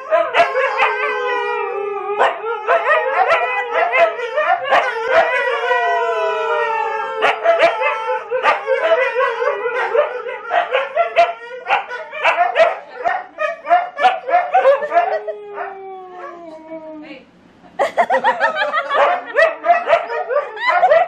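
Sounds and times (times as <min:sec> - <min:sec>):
dogs howling and yipping: 0:00.0 - 0:17.1, 0:18.2 - 0:21.0.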